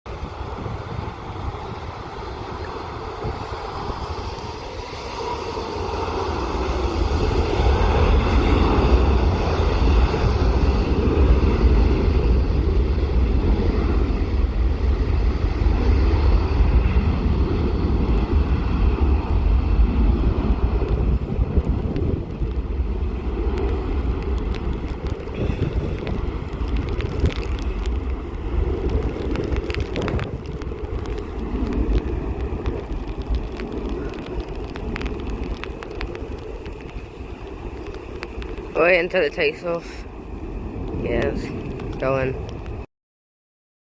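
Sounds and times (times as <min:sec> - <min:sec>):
wind rumble on microphone: 0:00.0 - 0:42.9
distant jet engines running: 0:00.1 - 0:42.9.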